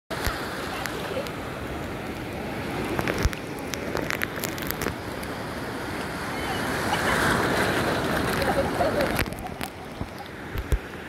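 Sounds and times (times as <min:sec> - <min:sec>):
small waves rushing: 0:00.1 - 0:11.0.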